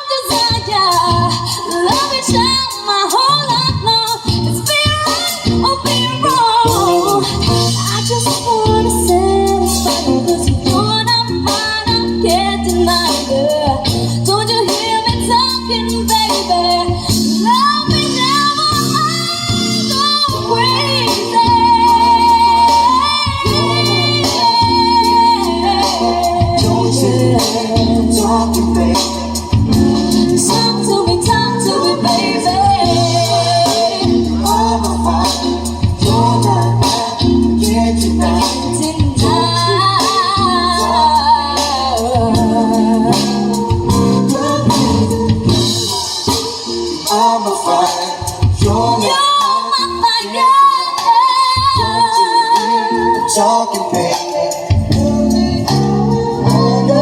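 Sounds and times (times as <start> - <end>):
woman singing soul song: 0.0 - 57.0
steady bass line: 0.2 - 50.0, 52.9 - 57.0.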